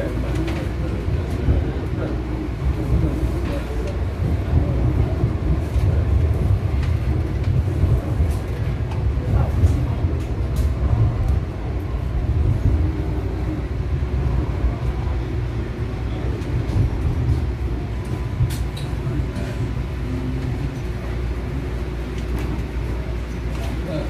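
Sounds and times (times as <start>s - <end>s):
tram wheels and motors rumbling: 0.0s - 24.0s.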